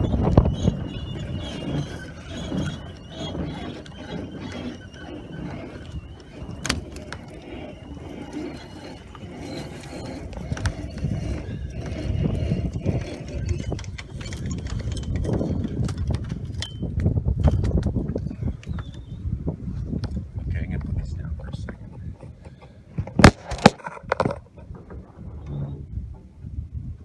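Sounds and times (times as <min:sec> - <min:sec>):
hand crank squeaking: 0:00.0 - 0:26.3.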